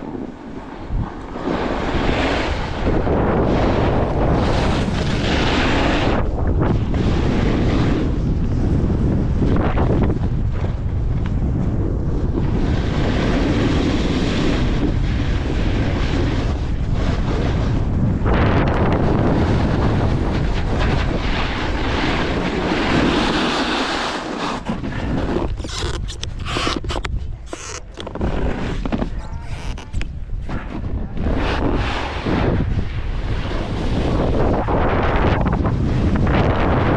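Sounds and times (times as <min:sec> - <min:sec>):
snowboard edges scraping snow: 0:00.0 - 0:36.9
wind buffeting microphone: 0:00.0 - 0:36.9.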